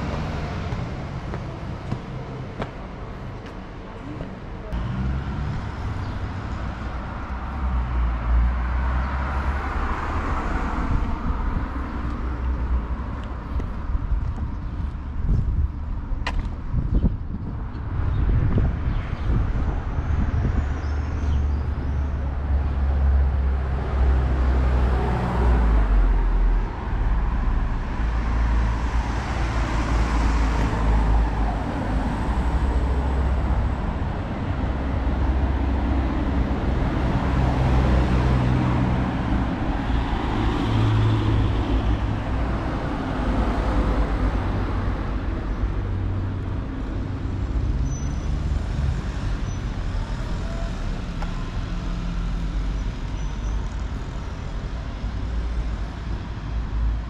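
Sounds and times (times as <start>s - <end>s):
cars driving past: 0.0s - 14.2s, 17.8s - 57.0s.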